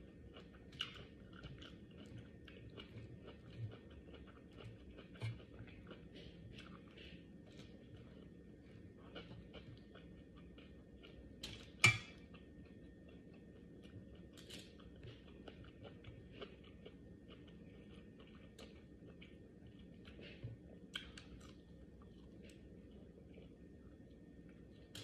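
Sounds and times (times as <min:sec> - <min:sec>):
person chewing: 0:00.1 - 0:25.0.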